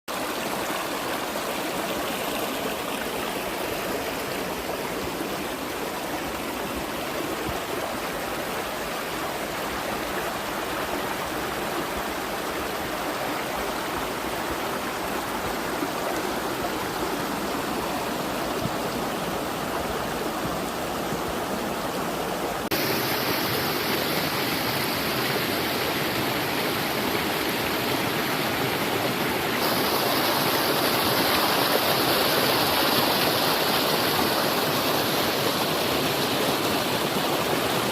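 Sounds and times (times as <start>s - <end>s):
stream of running water: 0.1s - 37.9s.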